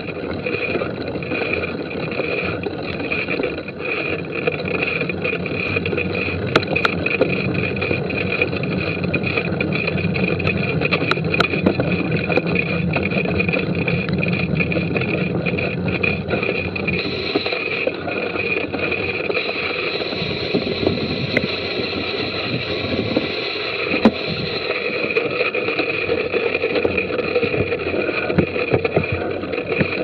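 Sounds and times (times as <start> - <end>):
bike rattling over bumps: 0.0 - 30.0
bike tyres rumbling and air rushing: 0.0 - 30.0.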